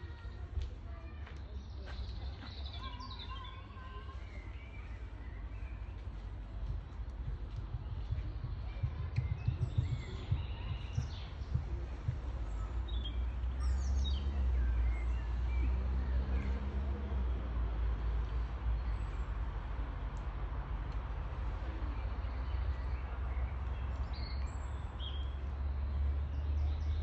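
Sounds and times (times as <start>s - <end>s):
songbirds chirping and singing: 0.0s - 27.0s.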